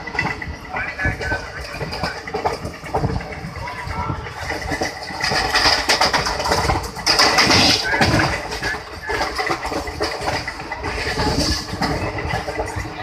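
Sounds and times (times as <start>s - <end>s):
carriage rattling: 0.0s - 13.0s
train wheel and wind noise: 0.0s - 13.0s.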